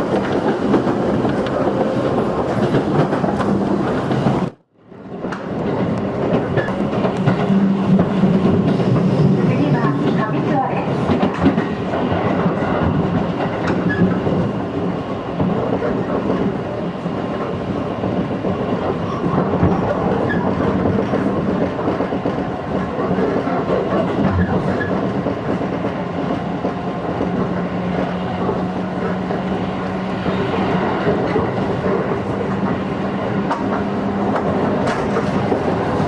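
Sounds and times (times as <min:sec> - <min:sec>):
rail joint clicks: 0:00.0 - 0:36.0
wheels rumbling on rail: 0:00.0 - 0:36.0.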